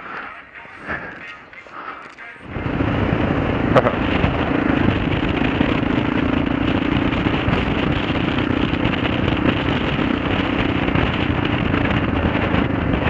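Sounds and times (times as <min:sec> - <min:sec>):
motorcycle engine running: 0:02.4 - 0:13.0
wind noise on microphone: 0:02.4 - 0:13.0.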